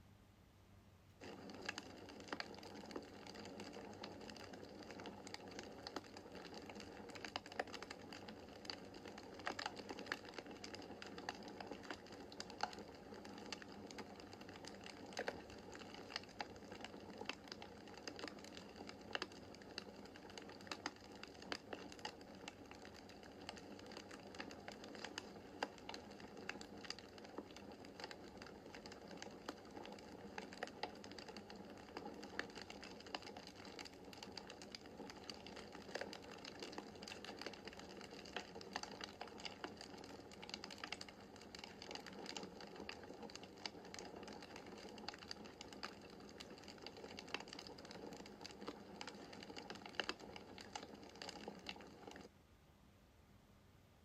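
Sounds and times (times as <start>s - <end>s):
wood fire crackling: 1.2s - 52.3s.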